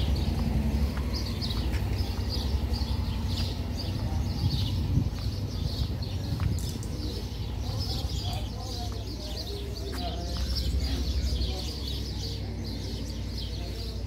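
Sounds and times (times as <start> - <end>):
steady low rumble: 0.0 - 11.6
small birds chirping: 0.0 - 14.0.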